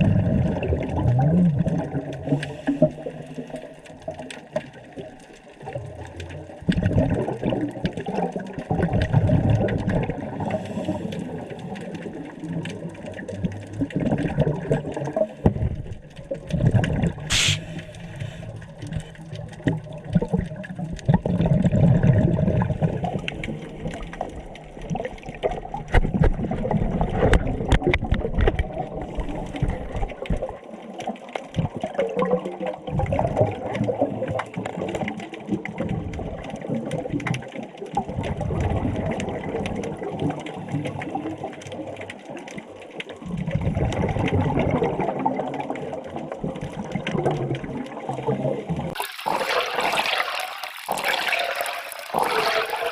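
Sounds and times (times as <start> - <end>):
underwater exhaled bubbles rushing: 0.0 - 52.9.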